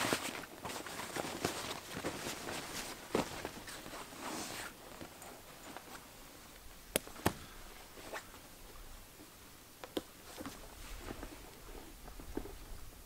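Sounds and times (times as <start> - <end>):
tent fabric rustling: 0.0 - 6.5, 7.1 - 8.8, 10.2 - 12.7.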